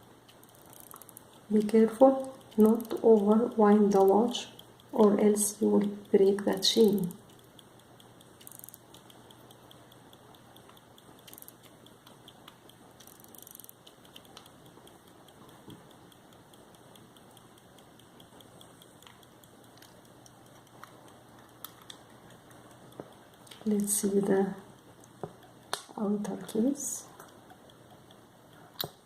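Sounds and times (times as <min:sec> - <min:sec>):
pocket watch ticking: 0:00.0 - 0:29.0.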